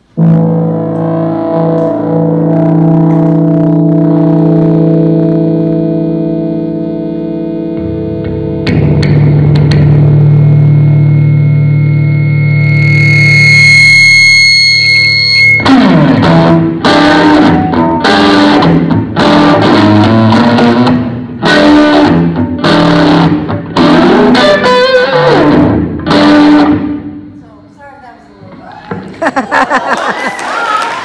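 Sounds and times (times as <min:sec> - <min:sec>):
electric guitar chords: 0:00.0 - 0:27.4
amp hum: 0:00.0 - 0:27.7.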